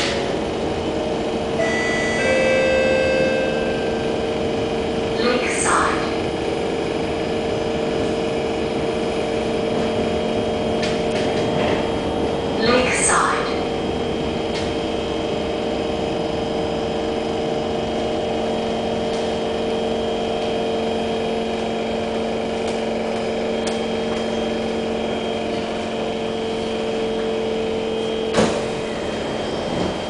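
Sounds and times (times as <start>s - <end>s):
train car electrical hum and whine: 0.0s - 30.0s.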